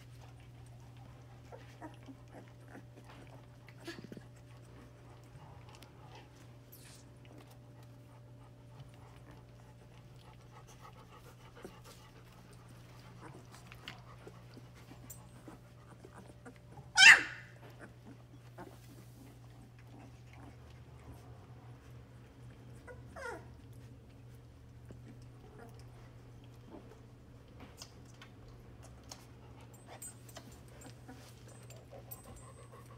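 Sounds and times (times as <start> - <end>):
puppies panting and snuffling: 0.0 - 32.9
steady low hum: 0.0 - 32.9.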